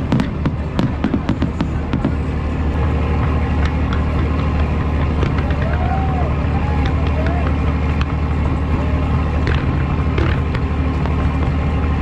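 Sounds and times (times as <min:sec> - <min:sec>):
fireworks bangs and crackles: 0:00.0 - 0:12.0
steady low rumble: 0:00.0 - 0:12.0.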